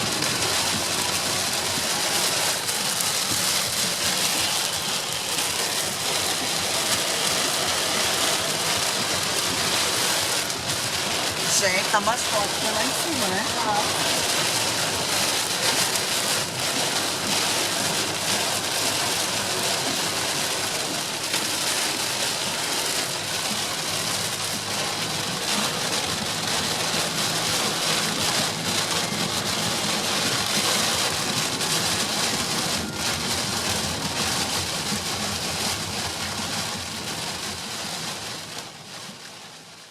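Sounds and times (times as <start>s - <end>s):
heavy rain on car: 0.0s - 39.9s.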